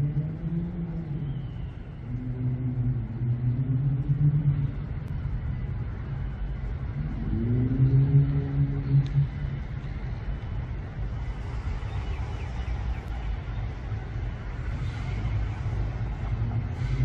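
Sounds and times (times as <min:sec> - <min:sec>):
vehicle engines accelerating past: 0:00.0 - 0:05.7, 0:06.3 - 0:17.0.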